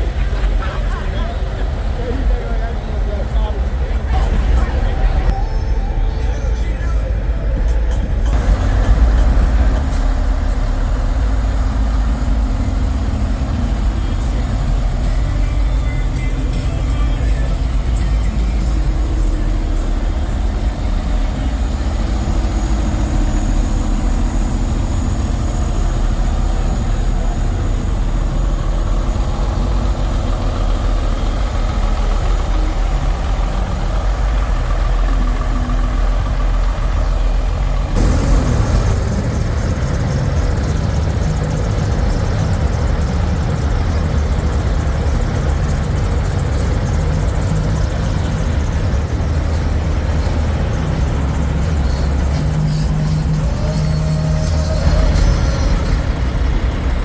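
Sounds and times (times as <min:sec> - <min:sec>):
truck engines idling: 0:00.0 - 0:57.0.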